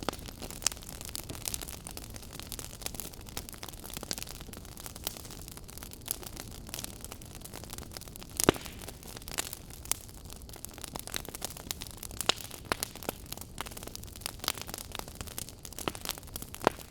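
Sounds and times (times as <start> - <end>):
soft steady fire hiss: 0.0 - 16.9
wood logs crackling in fireplace: 0.0 - 16.9.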